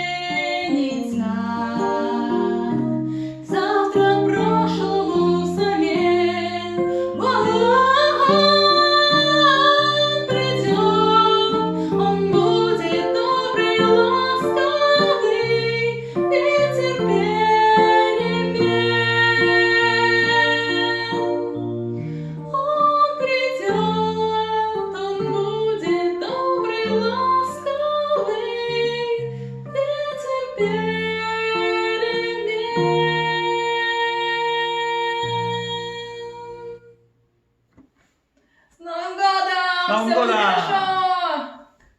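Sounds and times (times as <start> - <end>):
plucked guitar with held melody: 0.0 - 37.2.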